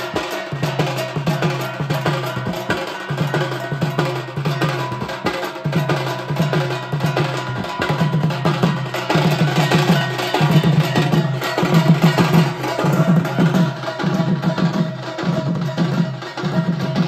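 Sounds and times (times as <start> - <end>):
barrel drums beaten fast: 0.0 - 17.0
brass hand cymbals clashing: 0.0 - 17.0.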